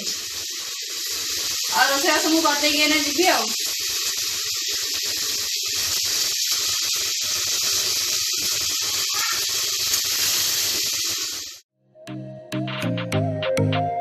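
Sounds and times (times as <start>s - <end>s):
tap water running into sink: 0.0s - 11.6s.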